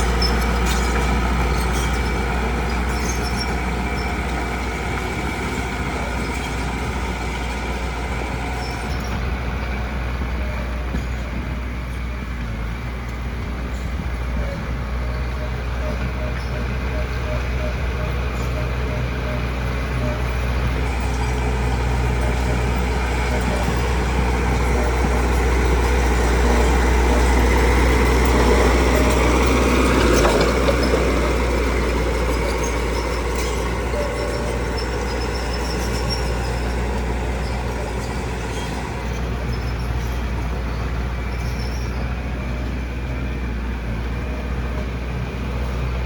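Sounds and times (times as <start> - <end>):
heavy machinery engine running: 0.0 - 46.0.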